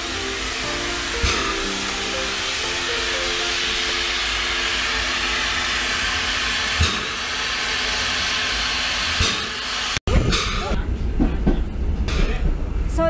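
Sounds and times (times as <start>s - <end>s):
steam locomotive hissing: 0.0s - 10.8s
train running noise: 0.0s - 13.0s.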